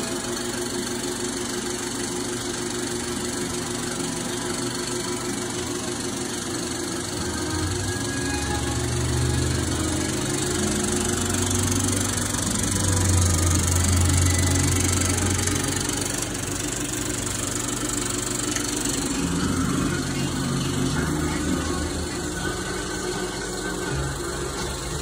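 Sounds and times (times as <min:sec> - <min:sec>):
film projector running: 0:00.0 - 0:25.0.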